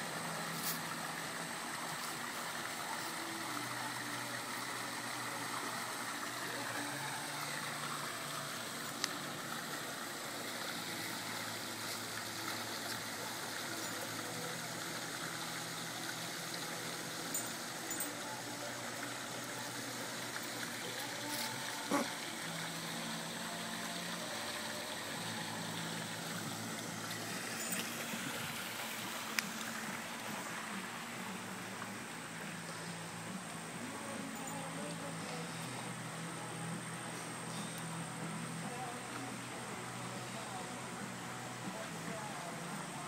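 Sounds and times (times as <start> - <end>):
running water: 0.0 - 43.0.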